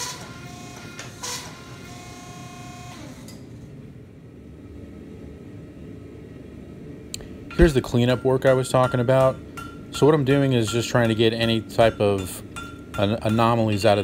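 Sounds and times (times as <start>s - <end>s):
press low hum: 0.0s - 14.0s.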